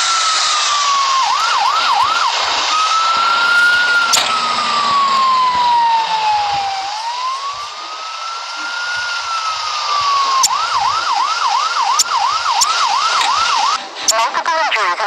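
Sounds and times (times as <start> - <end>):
ambulance siren wailing: 0.0 - 13.9.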